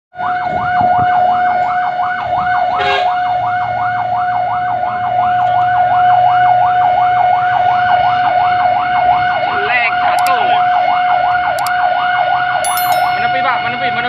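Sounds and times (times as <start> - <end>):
fire truck siren wailing: 0.2 - 14.0.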